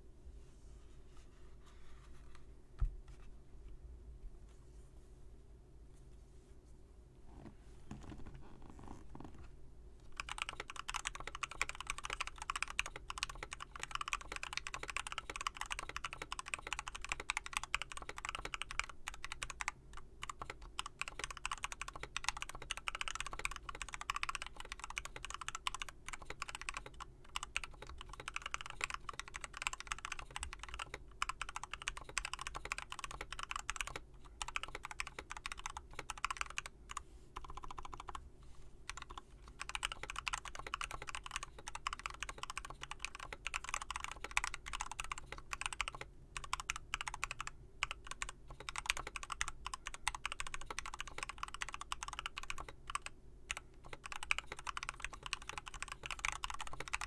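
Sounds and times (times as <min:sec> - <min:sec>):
fast typing on mechanical keyboard: 0:10.1 - 0:38.2, 0:38.9 - 0:57.0.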